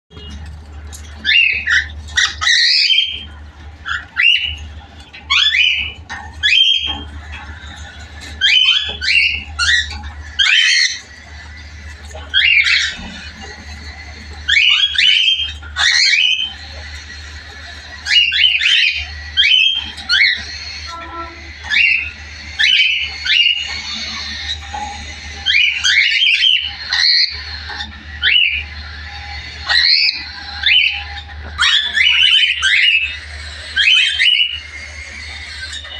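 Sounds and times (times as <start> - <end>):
steady low hum: 0.1 - 35.9
cockatiels squawking: 0.2 - 35.9.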